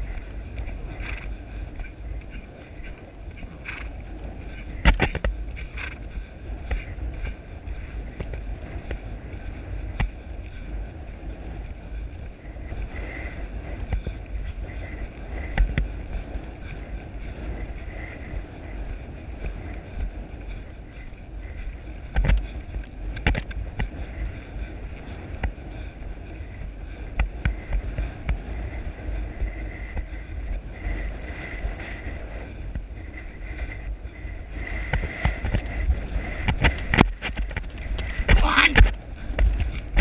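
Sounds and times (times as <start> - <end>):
hooves and tack knocking: 0.0 - 31.1, 32.6 - 40.0
wind rumbling on microphone: 0.0 - 40.0.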